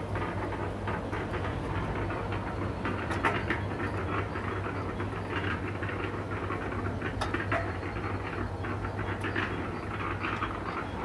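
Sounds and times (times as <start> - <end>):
cement mixer motor hum: 0.0 - 11.0.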